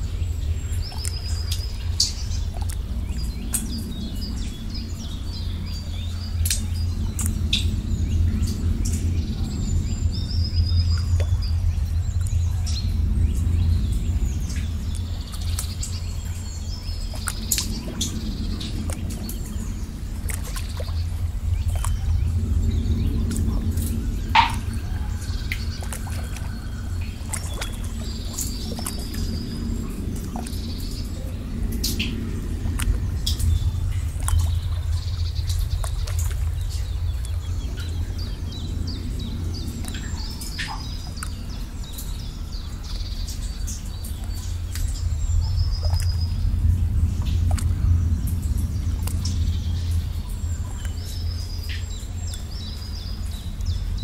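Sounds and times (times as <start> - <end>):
birds chirping: 0.0 - 54.0
flowing water rushing: 0.0 - 54.0
water drips and plops: 0.0 - 54.0.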